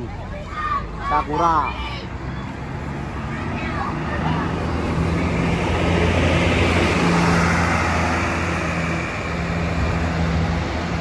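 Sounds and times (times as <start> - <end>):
bus engine droning: 0.0 - 11.0
road and wind noise: 0.0 - 11.0.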